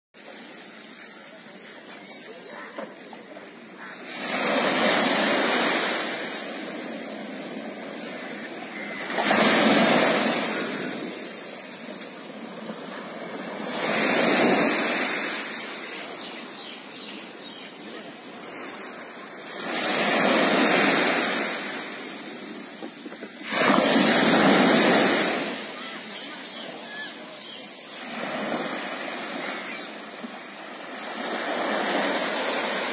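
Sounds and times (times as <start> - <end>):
small waves breaking on beach: 0.2 - 32.9
steady hiss of sea: 0.2 - 32.9.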